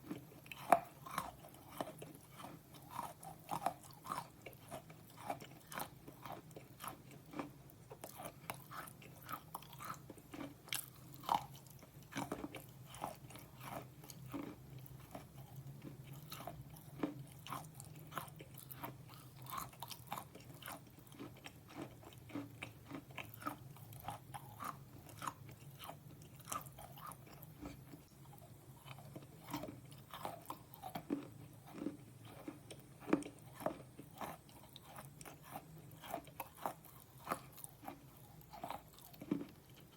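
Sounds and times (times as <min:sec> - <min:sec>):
crunching of chewing brittle pieces: 0:00.0 - 0:39.9.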